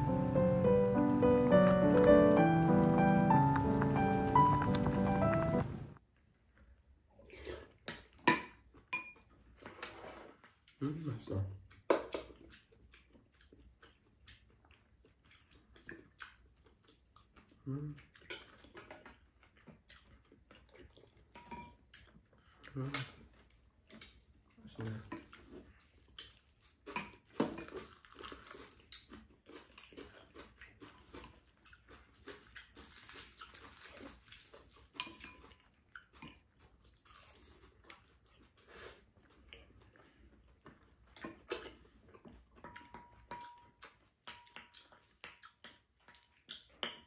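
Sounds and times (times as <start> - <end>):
chewing and crunching: 6.3 - 47.0.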